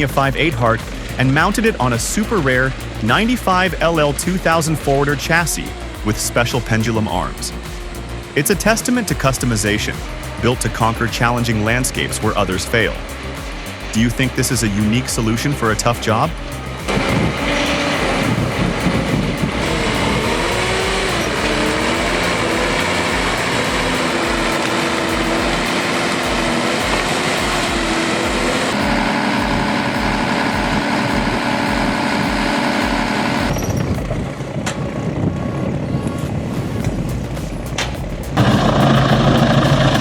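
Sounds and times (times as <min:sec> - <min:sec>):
wood chipper chipping: 0:00.0 - 0:34.8, 0:37.7 - 0:40.0
diesel engine under load: 0:00.0 - 0:40.0.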